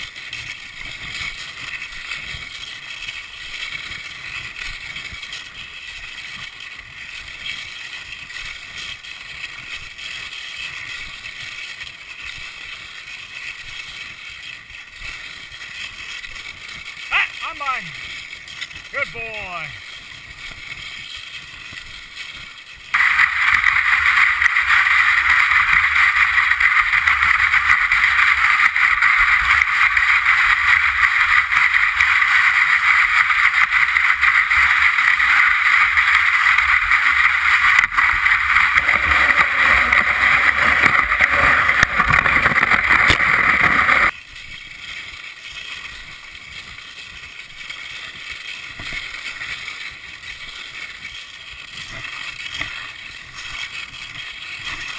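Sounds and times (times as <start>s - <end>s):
skis hissing over snow: 0.0s - 54.9s.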